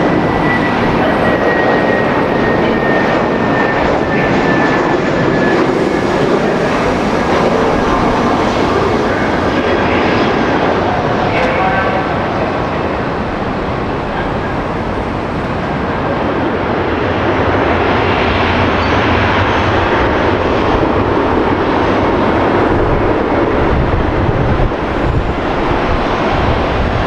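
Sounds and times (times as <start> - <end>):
jet airliner engine rushing: 0.0 - 27.0.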